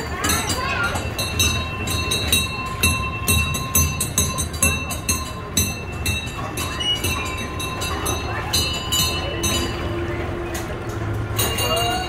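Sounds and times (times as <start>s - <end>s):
machinery low rumble: 0.0s - 12.0s.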